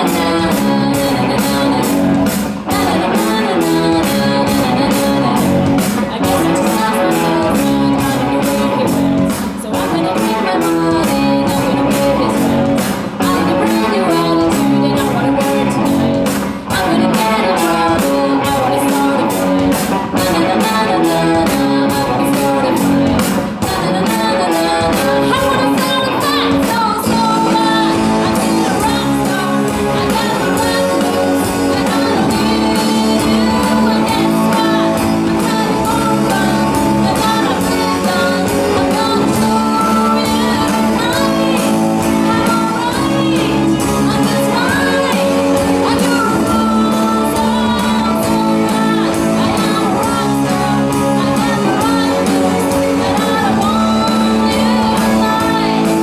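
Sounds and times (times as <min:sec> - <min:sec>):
live rock band playing: 0:00.0 - 0:56.0
woman singing: 0:00.0 - 0:56.0.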